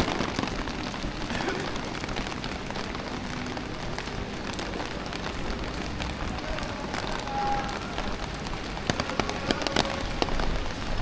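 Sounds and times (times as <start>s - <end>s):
rain falling on a street: 0.0s - 11.0s.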